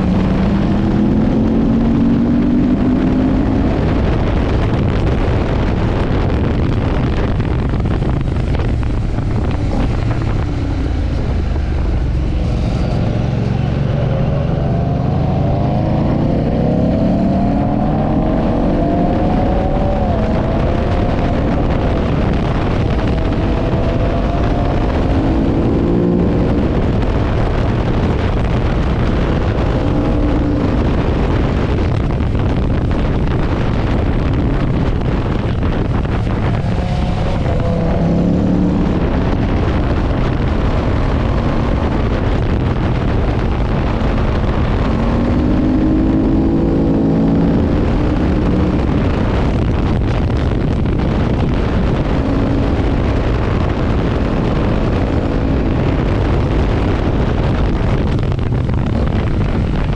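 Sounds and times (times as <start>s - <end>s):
motorcycle engine revving: 0.0s - 59.9s
wind noise on microphone: 0.0s - 59.9s.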